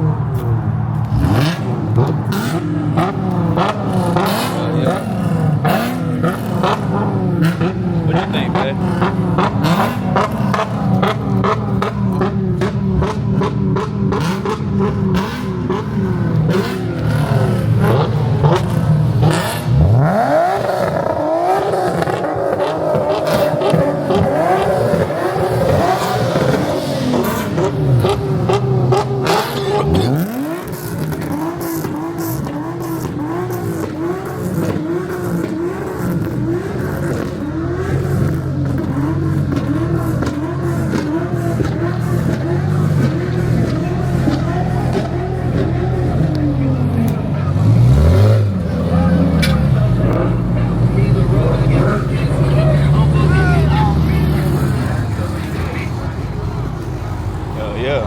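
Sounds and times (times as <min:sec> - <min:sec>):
car engine revving sharply: 0:00.0 - 0:58.0
car engines idling: 0:00.0 - 0:58.0
exhaust crackles and pops: 0:00.0 - 0:58.0.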